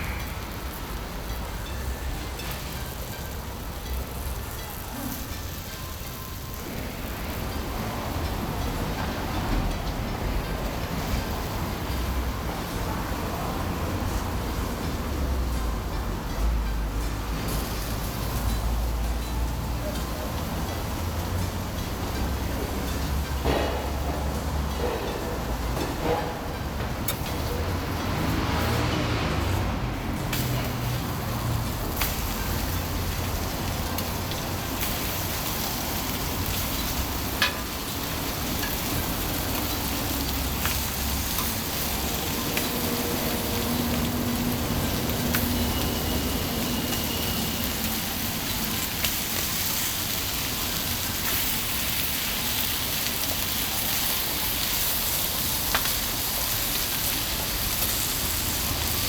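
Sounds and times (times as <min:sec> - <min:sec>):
food sizzling on a griddle: 0:00.0 - 0:59.0.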